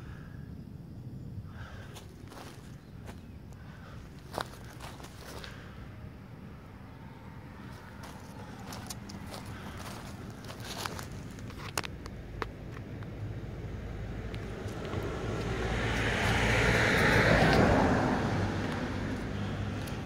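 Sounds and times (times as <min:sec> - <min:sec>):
steady low hum: 0:00.0 - 0:20.0
car passing: 0:01.5 - 0:20.0.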